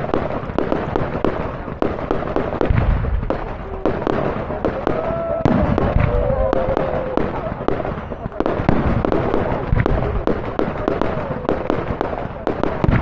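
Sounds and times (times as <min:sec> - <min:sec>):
fireworks crackling and banging: 0:00.0 - 0:13.0
low firework boom: 0:02.5 - 0:13.0.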